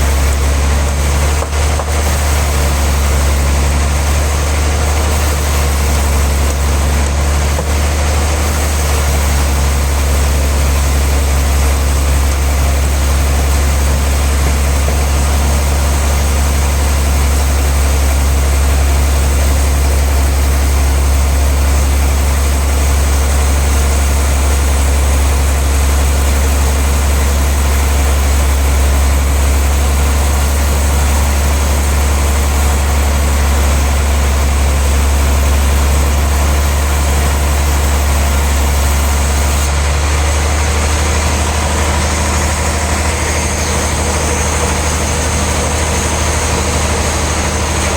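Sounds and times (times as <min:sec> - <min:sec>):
sawmill machinery humming: 0:00.0 - 0:47.9.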